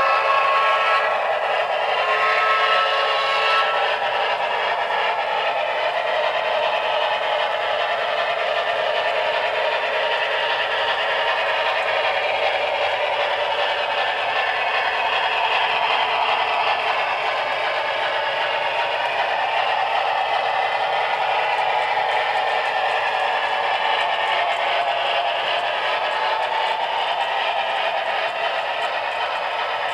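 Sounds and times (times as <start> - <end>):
model train wheels clattering: 0.0 - 29.9.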